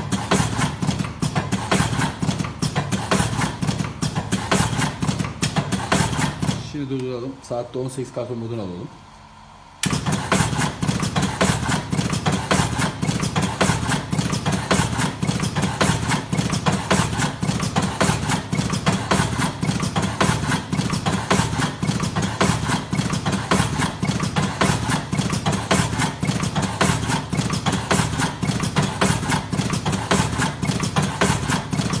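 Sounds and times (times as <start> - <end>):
machine clattering rapidly: 0.0 - 7.3, 9.8 - 32.0.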